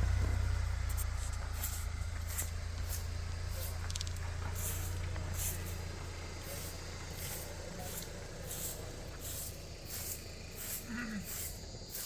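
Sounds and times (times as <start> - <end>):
car engine humming: 0.0 - 12.0
insects rasping: 0.0 - 12.0.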